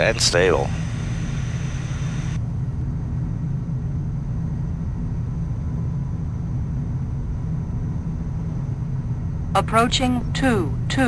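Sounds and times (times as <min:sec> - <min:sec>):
jet cockpit engine rumble: 0:00.0 - 0:11.0.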